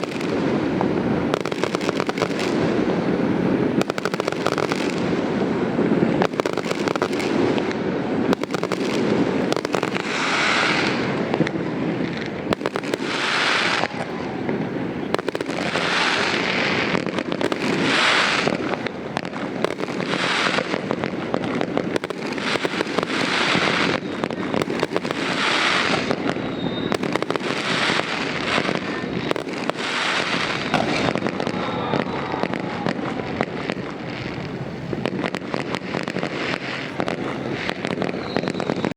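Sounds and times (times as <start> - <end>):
fireworks crackling and popping: 0.0 - 38.9
hissing crackle: 0.0 - 38.9.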